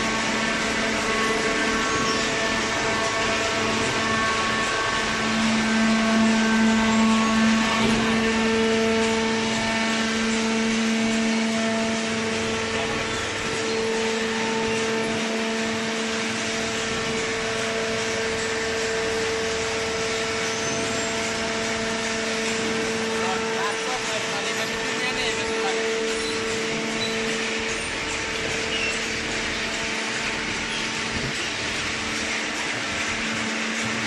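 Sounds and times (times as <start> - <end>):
hydraulic baler humming and whining: 0.0 - 34.0.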